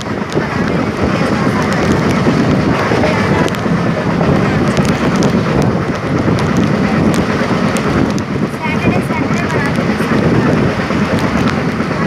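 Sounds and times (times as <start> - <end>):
train rumbling on track: 0.0 - 12.0
wind buffeting microphone: 0.0 - 12.0.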